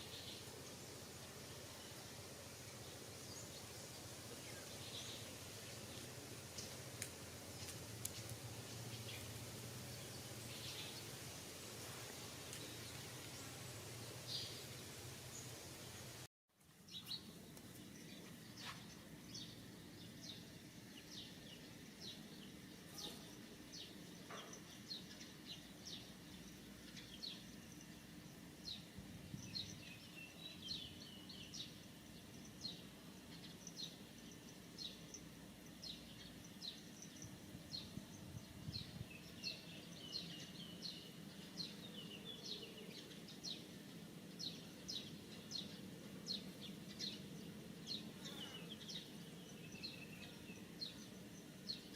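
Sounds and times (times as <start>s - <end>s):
birds chirping: 0.0s - 16.3s, 16.9s - 51.9s
outdoor background noise: 0.0s - 51.9s.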